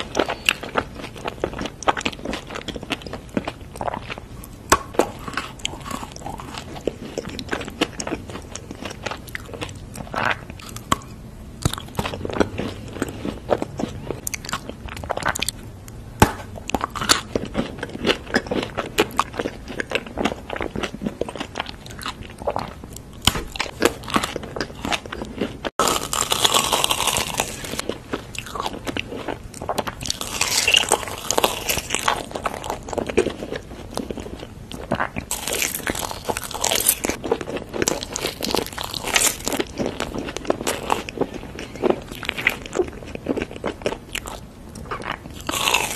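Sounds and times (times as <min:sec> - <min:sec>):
chewing: 0:00.0 - 0:15.6, 0:16.6 - 0:45.9
biting crunchy chocolate: 0:00.0 - 0:45.9.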